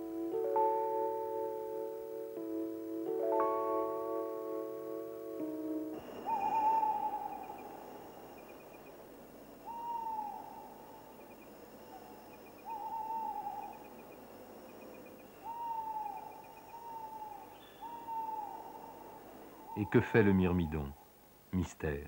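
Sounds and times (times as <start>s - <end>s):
bird hooting: 0.0s - 21.2s
faint steady high tone: 0.0s - 22.0s
soft chirping trills: 0.0s - 22.0s.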